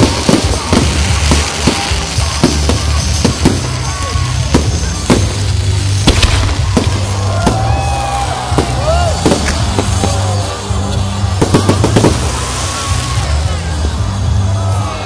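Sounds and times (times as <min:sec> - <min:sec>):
fireworks bangs and crackles: 0:00.0 - 0:15.0
fireworks whistling: 0:00.0 - 0:15.0.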